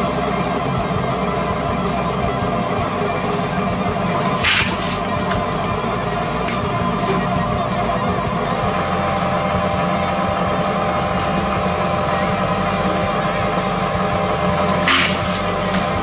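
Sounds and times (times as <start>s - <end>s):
shredding machine humming: 0.0s - 16.0s.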